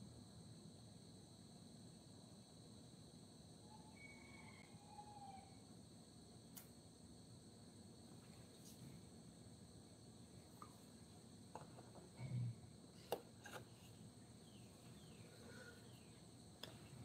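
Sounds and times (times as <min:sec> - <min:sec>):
faint high-pitched insect chorus: 0:00.0 - 0:17.0.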